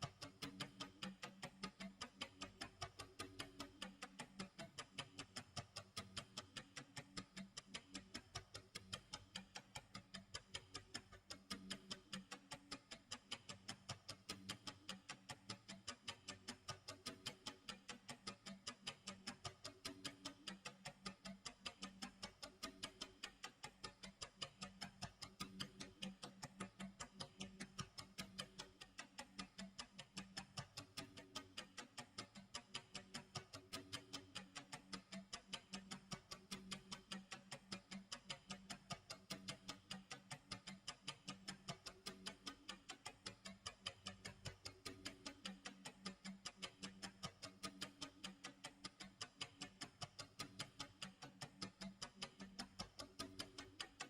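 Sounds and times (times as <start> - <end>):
clock ticking: 0.0 - 54.0.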